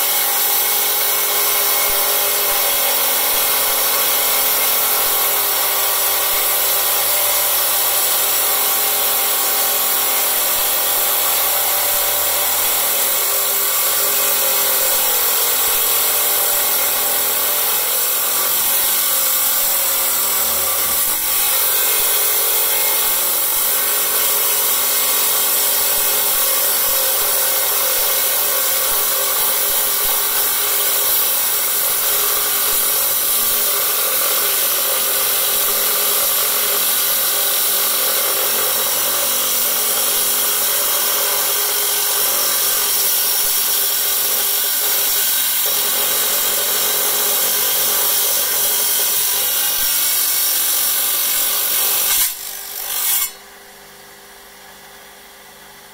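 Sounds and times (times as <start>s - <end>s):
saw motor humming: 0.0s - 53.6s
stone saw cutting stone: 0.0s - 53.6s.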